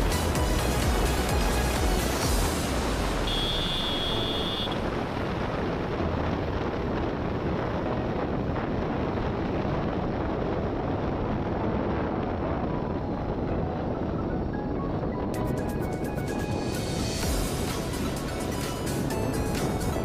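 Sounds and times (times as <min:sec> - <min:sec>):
motorcycle running: 0:00.0 - 0:20.0
wind rushing over microphone: 0:01.1 - 0:20.0.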